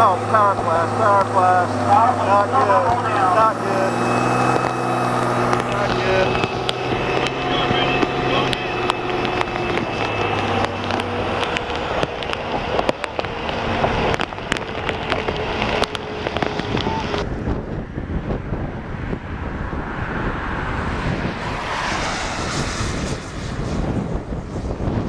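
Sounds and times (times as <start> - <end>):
storm wind buffeting a vehicle: 0.0 - 25.0.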